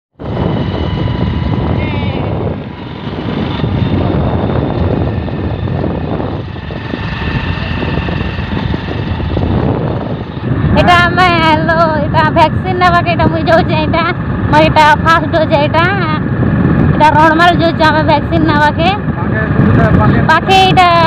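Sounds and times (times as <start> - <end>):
motorbike road noise: 0.2 - 21.0
wind rushing over microphone: 0.2 - 21.0.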